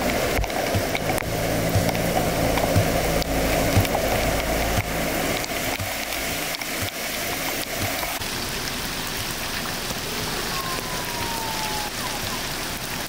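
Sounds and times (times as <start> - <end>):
floodwater rushing: 0.0 - 13.0
heavy rain on standing water: 0.0 - 13.0.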